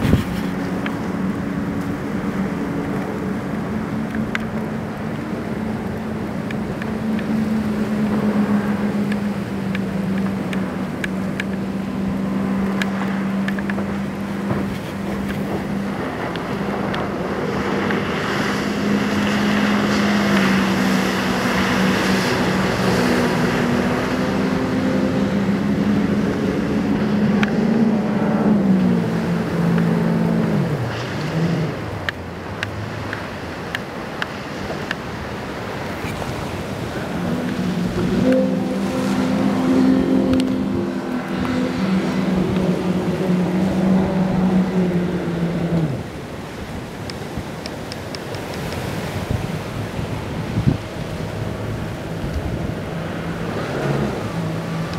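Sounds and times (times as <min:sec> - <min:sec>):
motorboat engine running: 0:00.0 - 0:54.9
rush of water and wind: 0:00.0 - 0:54.9.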